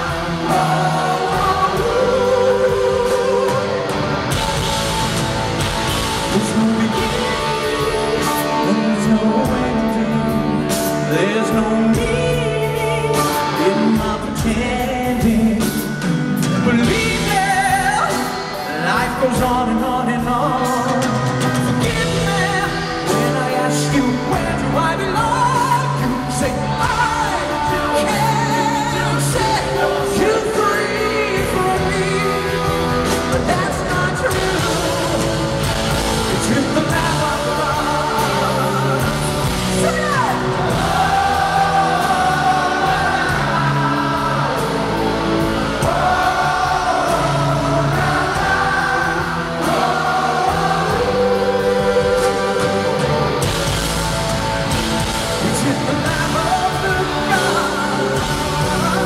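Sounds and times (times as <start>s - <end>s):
live rock band playing: 0.0s - 59.0s
man singing lead vocal: 0.0s - 59.0s.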